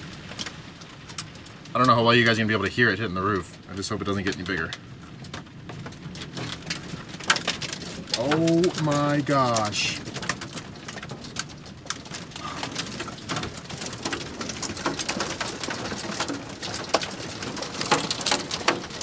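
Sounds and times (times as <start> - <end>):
hail and rain on vehicle roof: 0.0 - 19.0.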